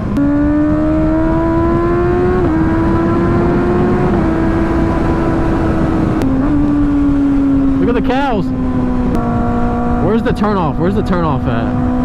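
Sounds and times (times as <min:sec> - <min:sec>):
motorcycle engine running: 0:00.0 - 0:12.0
steady rushing noise: 0:01.1 - 0:12.0.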